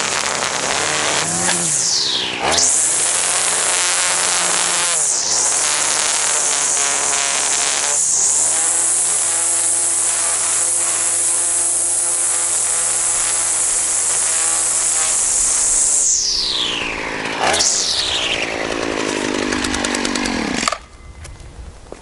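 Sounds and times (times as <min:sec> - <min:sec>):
string trimmer cutting grass: 0:00.0 - 0:20.9.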